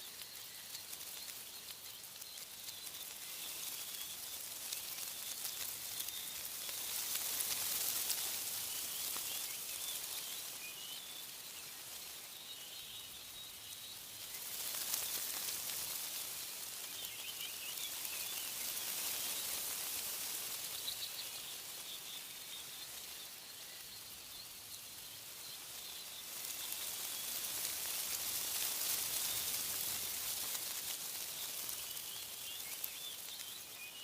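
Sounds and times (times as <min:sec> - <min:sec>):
small birds chirping: 0:00.0 - 0:34.0
wind rustling tree leaves: 0:00.0 - 0:34.0.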